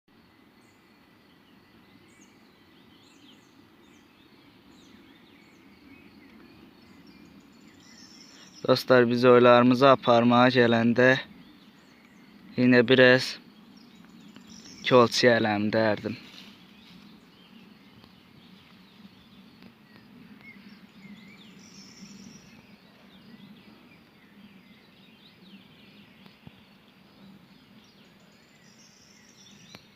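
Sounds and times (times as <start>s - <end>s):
low background hiss: 0.2s - 29.9s
small birds chirping: 0.2s - 29.9s
steady low hum: 0.2s - 29.9s.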